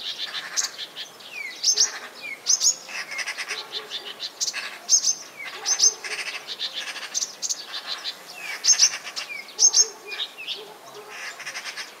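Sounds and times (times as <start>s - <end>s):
nightingale singing: 0.0s - 12.0s.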